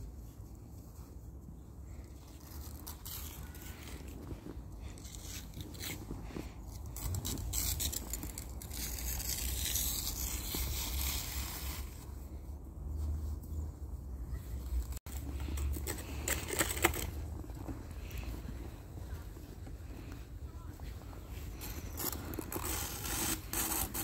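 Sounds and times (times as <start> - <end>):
snow crunching and scraping: 0.2 - 24.0.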